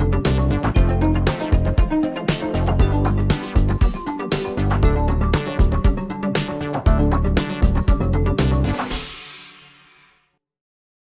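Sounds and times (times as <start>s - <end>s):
background music with guitar: 0.0s - 9.2s.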